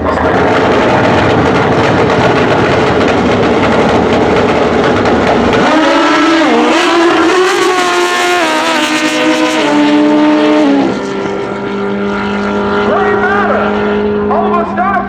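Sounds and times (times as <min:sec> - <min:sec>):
motorcycle engine at full throttle: 0:00.0 - 0:15.0.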